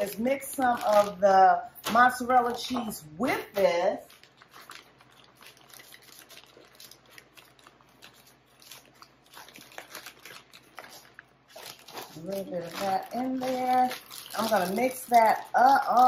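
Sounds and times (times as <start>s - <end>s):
plastic bag rustling and crinkling: 0.0s - 1.3s, 3.7s - 16.0s.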